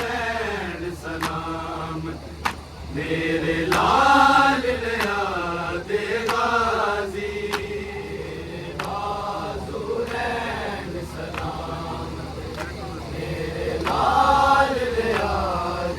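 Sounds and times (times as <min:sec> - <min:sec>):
men chanting: 0:00.0 - 0:15.9.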